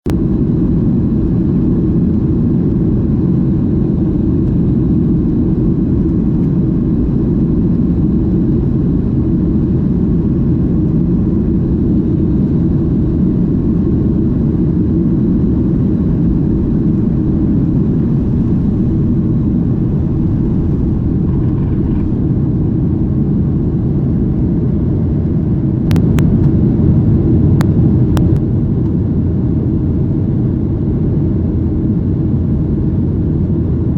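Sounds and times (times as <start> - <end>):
aircraft cabin rumble: 0.1 - 33.9.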